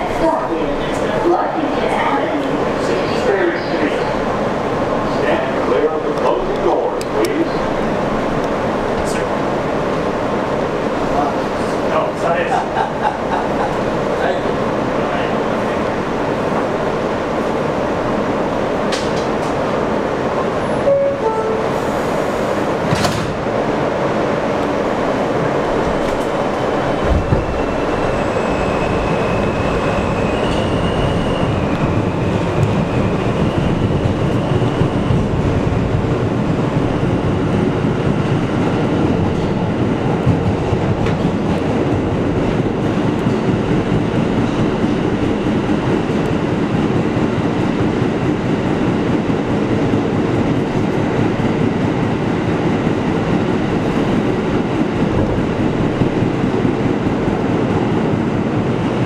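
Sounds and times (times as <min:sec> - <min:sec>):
subway wheels rumbling on rail: 0:00.0 - 0:59.0.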